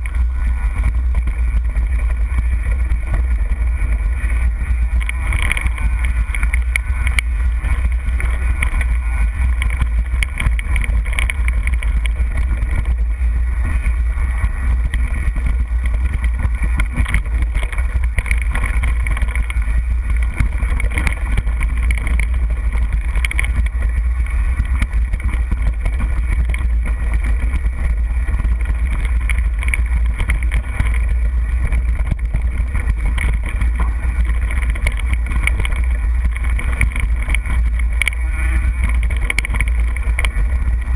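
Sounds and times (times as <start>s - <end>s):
bike rattling over rocks: 0.0s - 40.9s
wind buffeting microphone: 0.0s - 40.9s.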